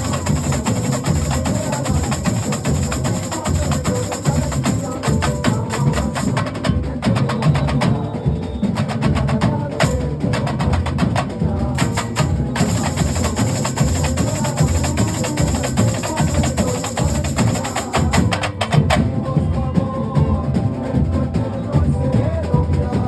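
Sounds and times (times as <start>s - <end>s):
deep bass drums: 0.0s - 23.0s
drum section playing: 0.0s - 23.0s.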